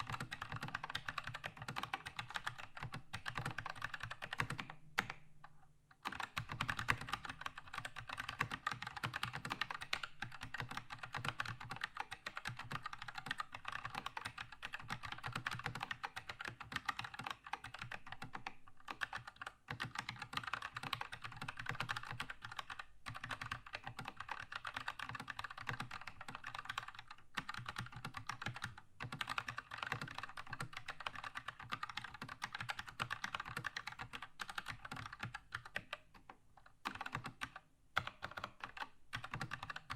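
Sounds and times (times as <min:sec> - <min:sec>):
mechanical keyboard typing: 0:00.0 - 0:05.2, 0:06.0 - 0:39.9.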